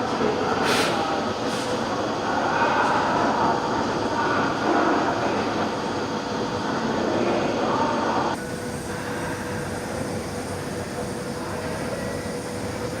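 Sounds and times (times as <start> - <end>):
laser cutting machine running: 0.0 - 13.0.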